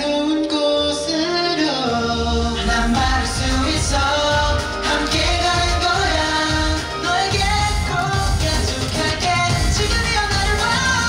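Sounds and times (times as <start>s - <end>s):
male group singing: 0.0s - 11.0s
upbeat pop dance track: 0.0s - 11.0s.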